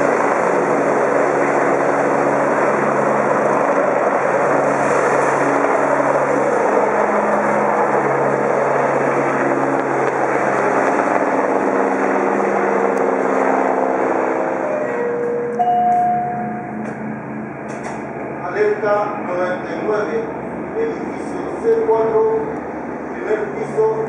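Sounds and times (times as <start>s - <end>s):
helicopter rotor and engines: 0.0s - 24.0s.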